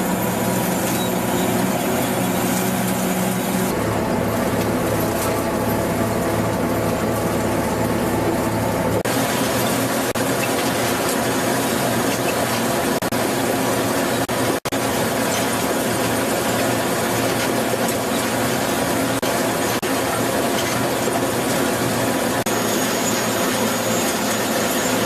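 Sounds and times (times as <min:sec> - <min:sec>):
engine hum: 0:00.0 - 0:25.0.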